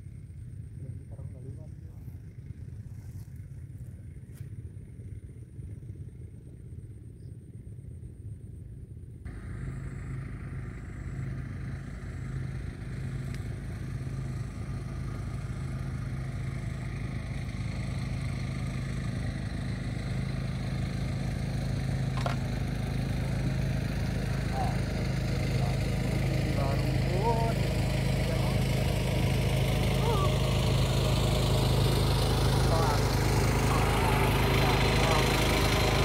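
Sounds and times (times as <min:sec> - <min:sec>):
motor engine running: 0:00.0 - 0:36.0.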